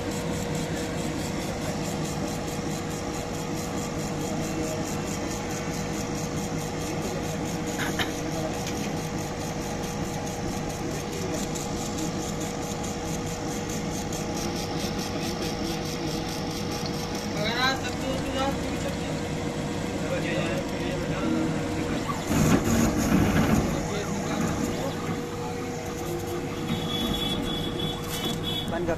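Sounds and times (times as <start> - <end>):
laser engraver hum and hiss: 0.0 - 28.9.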